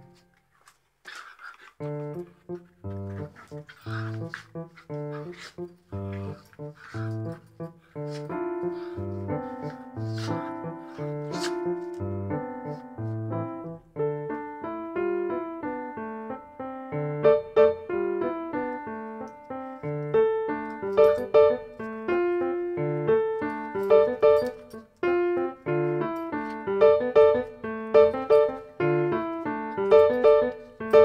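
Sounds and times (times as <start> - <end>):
solo piano music: 1.9 - 31.0.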